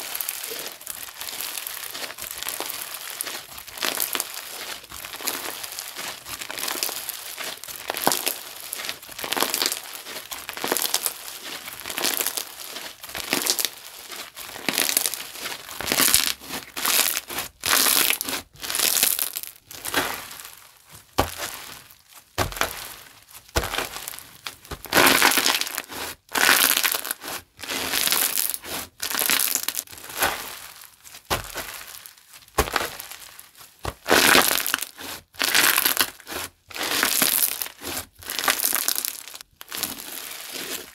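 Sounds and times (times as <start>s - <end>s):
slime squishing by hand: 0.0s - 40.9s.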